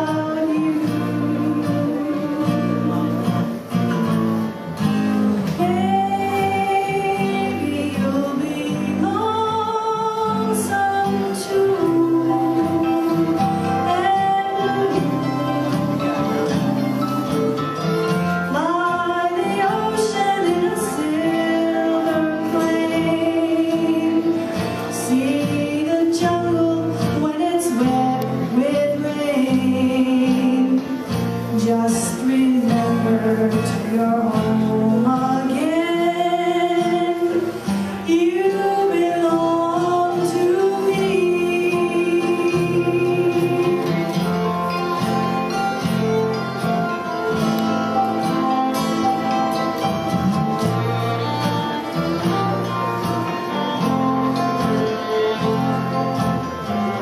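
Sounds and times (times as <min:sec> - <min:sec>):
woman singing with vibrato: 0:00.0 - 0:17.3, 0:18.0 - 0:57.0
strummed acoustic guitar: 0:00.0 - 0:57.0.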